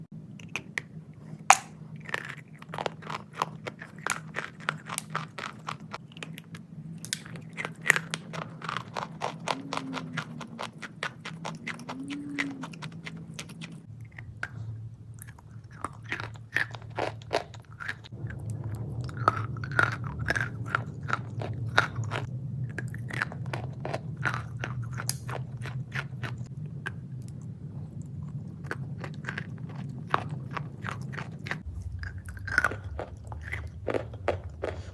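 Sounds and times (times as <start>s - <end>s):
steady low hum: 0.0s - 34.9s
crunchy chewing: 0.4s - 34.9s.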